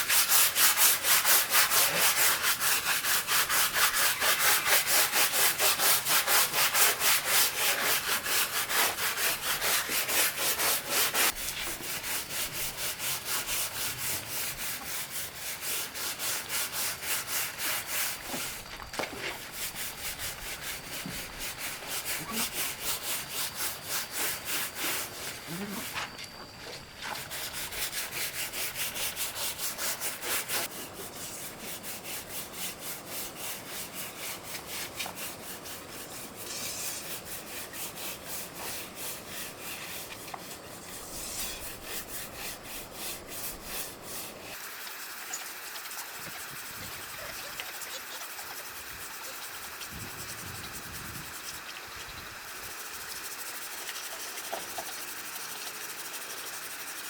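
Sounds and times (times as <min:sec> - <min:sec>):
hand tool scraping rough surface: 0:00.0 - 0:51.6
steady hiss: 0:00.0 - 0:57.0.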